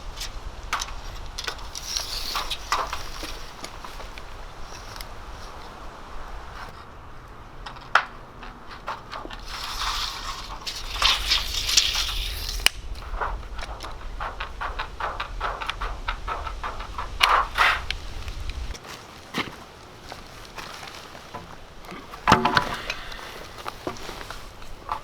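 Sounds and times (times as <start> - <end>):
wooden shakes scraping and rustling: 0.0 - 6.9, 7.6 - 25.0.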